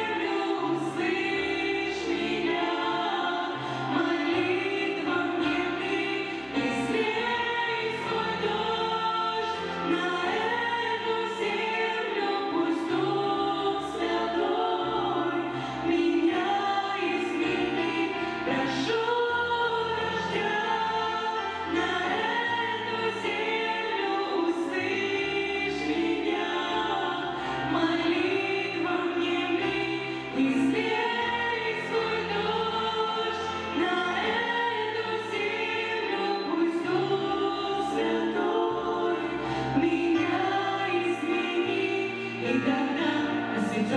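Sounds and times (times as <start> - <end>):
choral singing: 0.0 - 43.9.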